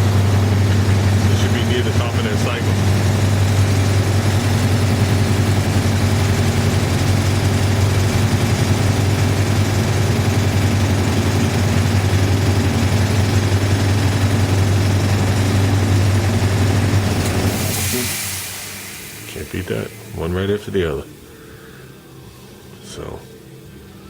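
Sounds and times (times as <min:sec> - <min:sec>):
air compressor humming: 0:00.0 - 0:23.8.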